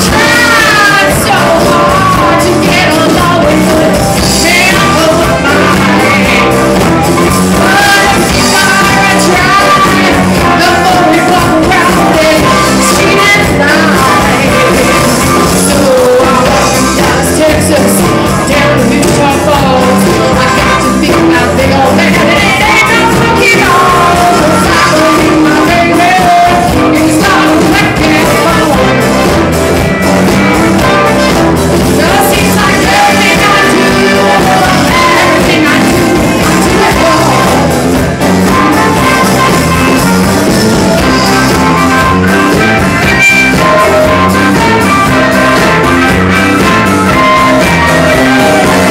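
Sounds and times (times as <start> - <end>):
drums: 0.0 - 48.9
electric guitar: 0.0 - 48.9
live rock band playing: 0.0 - 48.9
trumpet: 0.0 - 48.9.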